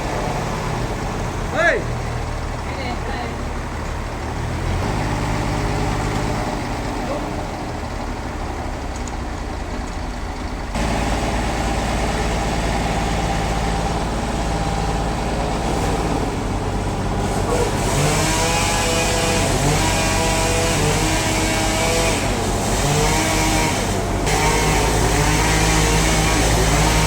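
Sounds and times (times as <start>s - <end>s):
heavy engine running: 0.0s - 27.0s.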